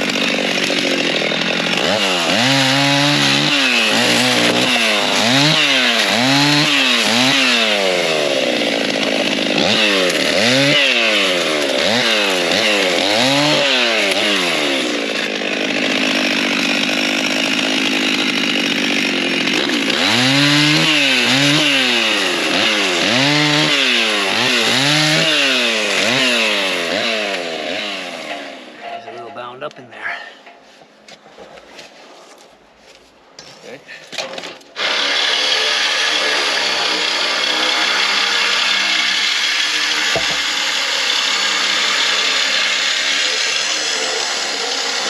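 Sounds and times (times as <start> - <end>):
chainsaw revving cutting wood: 0.0 - 28.8, 34.1 - 45.0.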